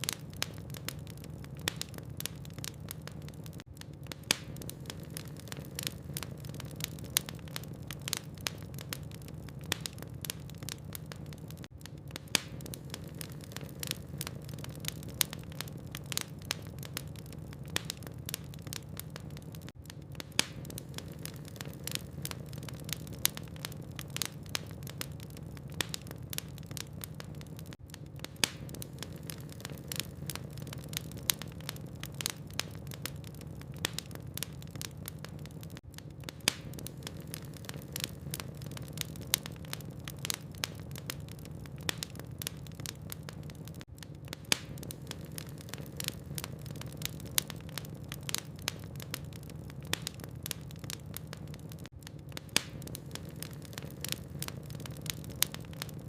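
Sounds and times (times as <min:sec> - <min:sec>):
wood logs crackling in fireplace: 0:00.0 - 0:56.0.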